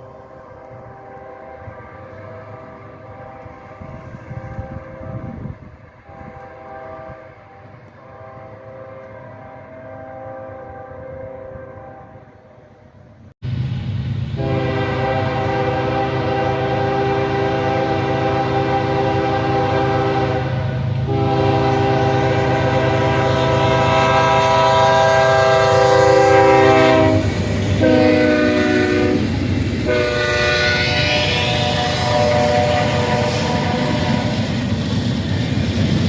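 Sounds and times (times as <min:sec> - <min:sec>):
locomotive air horn blasts: 0:00.0 - 0:12.7, 0:14.4 - 0:34.6
train rumbling: 0:00.0 - 0:36.0.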